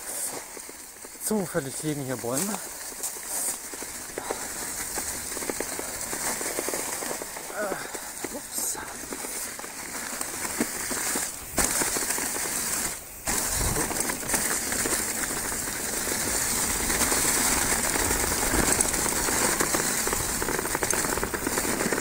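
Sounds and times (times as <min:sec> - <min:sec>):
bike tyres rolling over dry leaves: 0:00.0 - 0:22.0.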